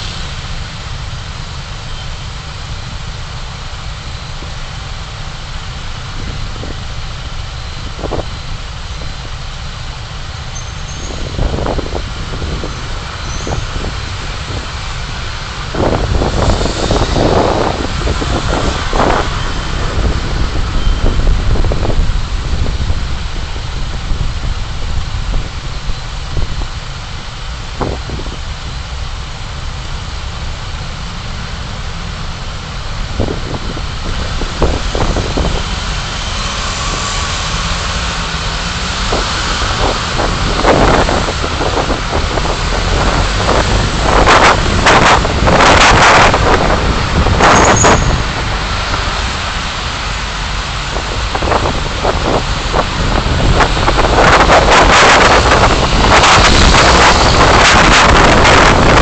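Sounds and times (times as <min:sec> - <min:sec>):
car road and engine noise: 0:00.0 - 0:59.0
passing traffic rushing: 0:00.0 - 0:59.0.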